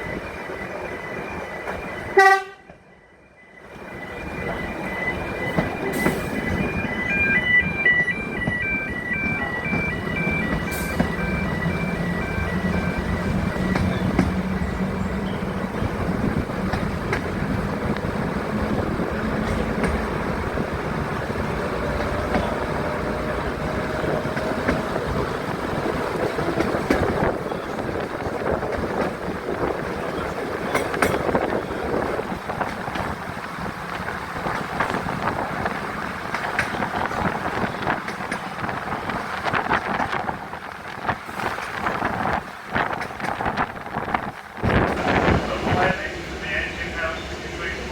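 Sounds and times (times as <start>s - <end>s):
train rumbling: 0.0s - 47.9s
train wheels clattering: 8.0s - 47.9s.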